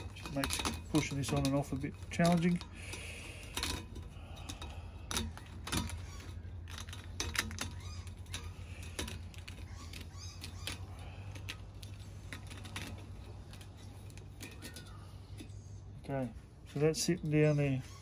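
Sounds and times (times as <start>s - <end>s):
light metallic clinks and scrapes: 0.0s - 18.0s.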